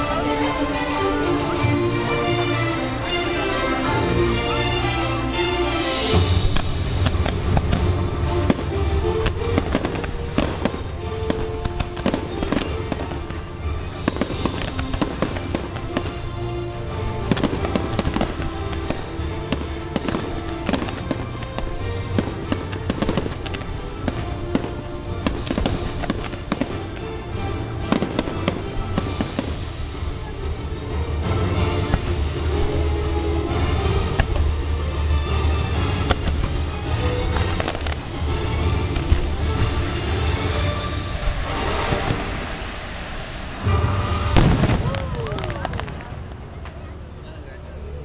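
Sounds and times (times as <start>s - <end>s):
fireworks bangs and crackles: 6.0s - 48.0s.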